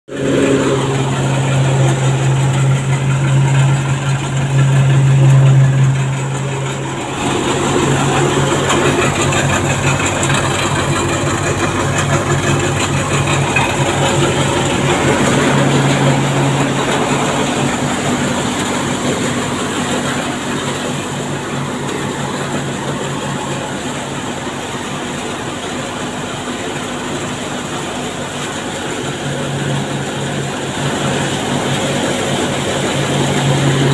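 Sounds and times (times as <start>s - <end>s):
thresher running with hum and clatter: 0.1s - 33.9s.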